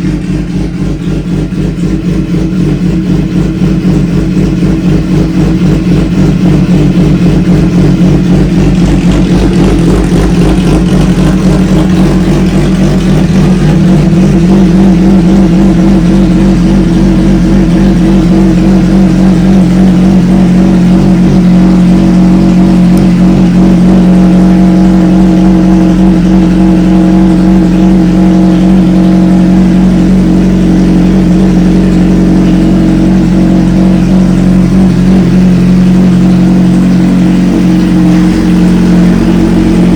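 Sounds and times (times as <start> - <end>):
motorcycle engine running loudly: 0.0 - 39.9.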